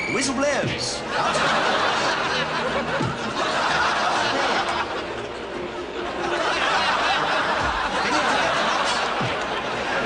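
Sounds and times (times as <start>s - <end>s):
crowd laughing and chattering: 0.0s - 10.0s.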